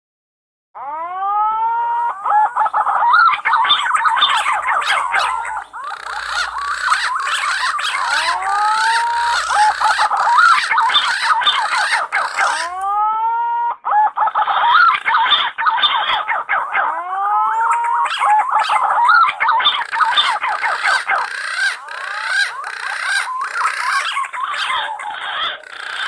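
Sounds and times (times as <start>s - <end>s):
pigeons calling fluty whistles: 1.8s - 26.0s.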